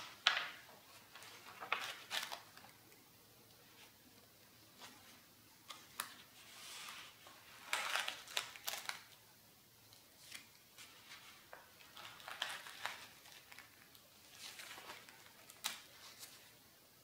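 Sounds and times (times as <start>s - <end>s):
paper pages rustling: 0.0s - 9.2s, 9.9s - 16.6s.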